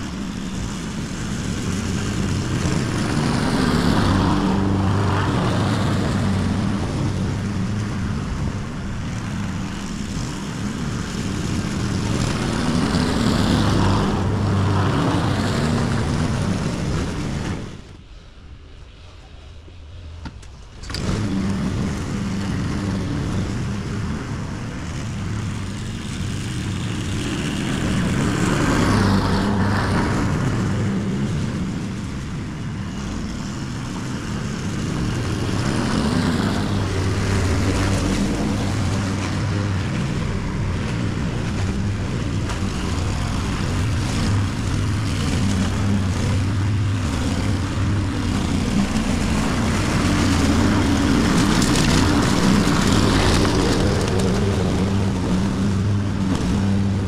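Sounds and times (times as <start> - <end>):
lawn mower engine running: 0.0 - 18.0, 20.3 - 57.0.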